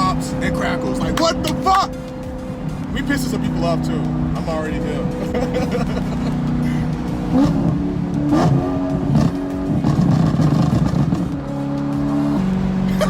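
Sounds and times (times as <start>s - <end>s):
exhaust pops and crackles: 0.0s - 6.6s, 7.3s - 13.0s
car engine revving: 0.0s - 13.0s.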